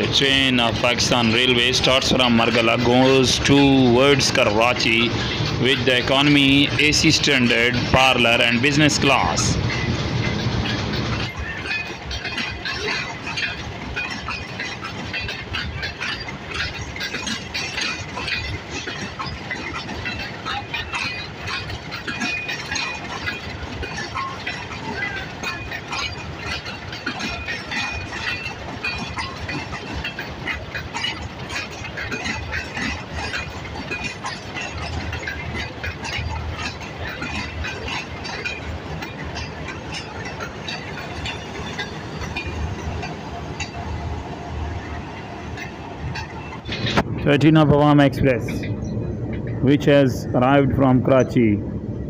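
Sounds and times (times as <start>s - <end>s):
train wheels clanking over rail joints: 0.0s - 51.4s.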